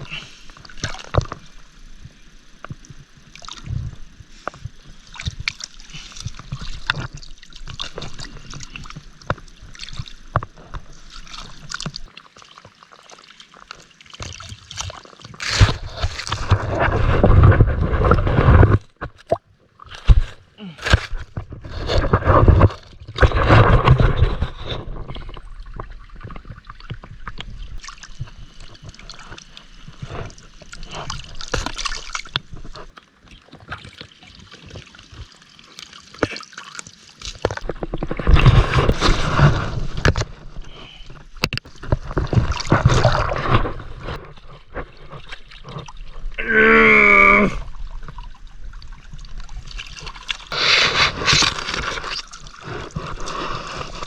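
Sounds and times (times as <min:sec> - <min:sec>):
water splashing and gurgling: 0:00.0 - 0:54.0.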